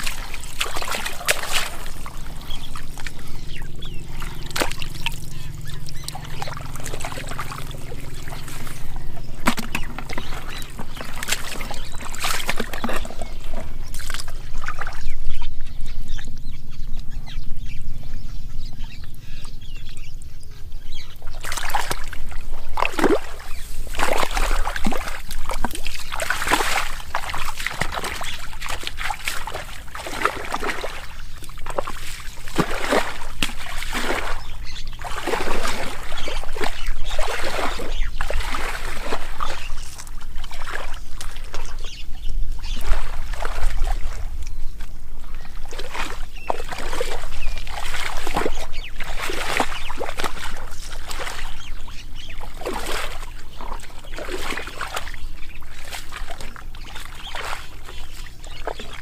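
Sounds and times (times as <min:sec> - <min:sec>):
splashing in muddy water: 0:00.0 - 0:15.4, 0:20.9 - 0:59.0
steady low hum: 0:00.0 - 0:59.0.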